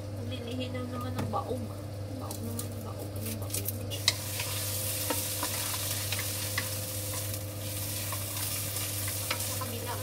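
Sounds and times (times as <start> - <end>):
sausage and onion sizzling in pan: 2.0 - 10.0.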